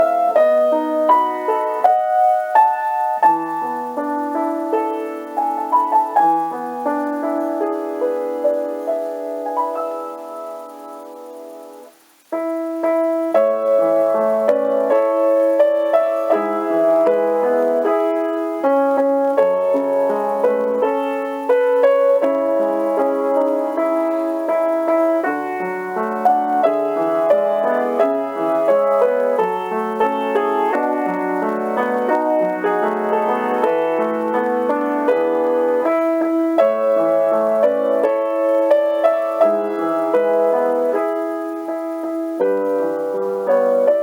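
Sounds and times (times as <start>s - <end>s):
solo piano music: 0.0s - 44.0s.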